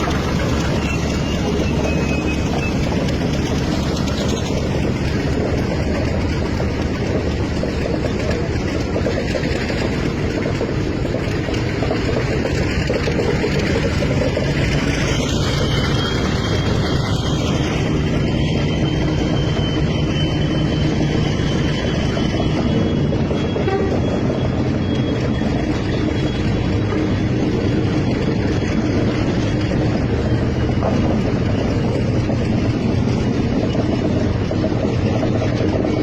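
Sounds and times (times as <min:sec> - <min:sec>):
heavy engine running: 0:00.0 - 0:36.0.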